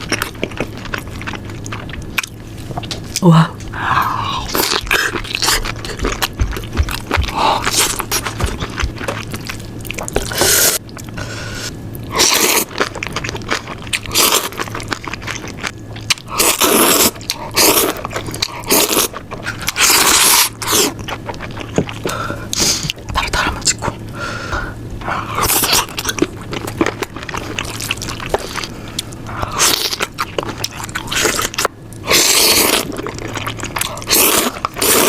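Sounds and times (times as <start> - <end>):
crunching bites and chewing: 0.0 - 3.2, 4.5 - 11.2, 11.9 - 24.1, 25.0 - 35.0.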